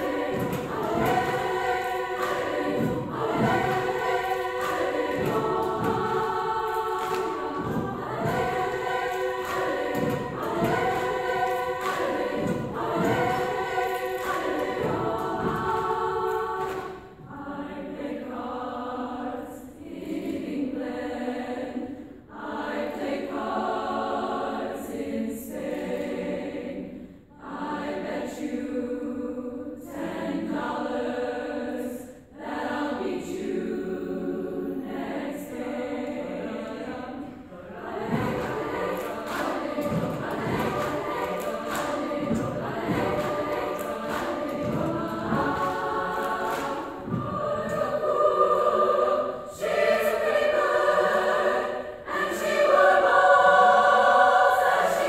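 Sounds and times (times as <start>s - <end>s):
women's choir singing: 0.0s - 55.0s.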